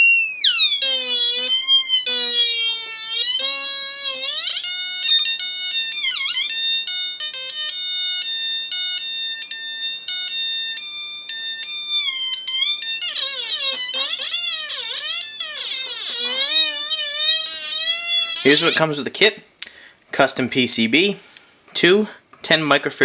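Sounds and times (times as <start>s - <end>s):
electronic theremin tone: 0.0s - 19.0s.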